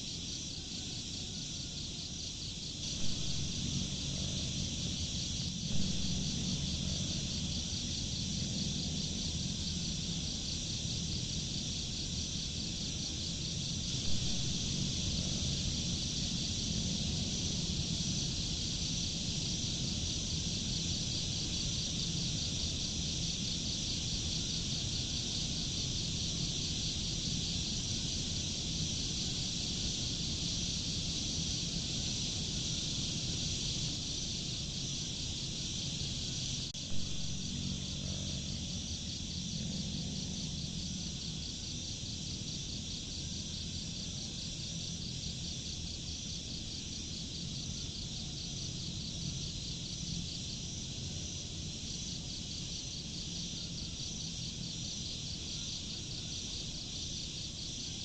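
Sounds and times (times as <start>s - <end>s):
low steady drone: 0.0s - 57.0s
crickets chirping: 0.0s - 58.0s.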